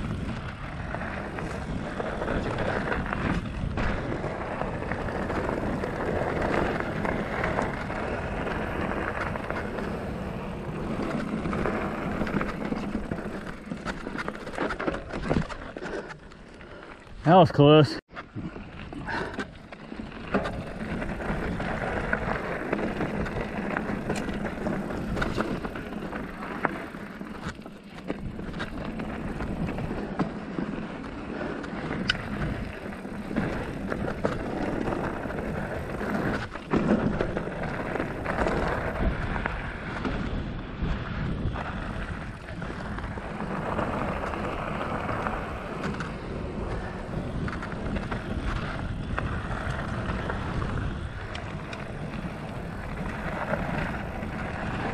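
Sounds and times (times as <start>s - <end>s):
bike knocking and rattling: 0.0s - 17.4s, 18.2s - 54.9s
bike tyres on dirt: 0.0s - 54.9s.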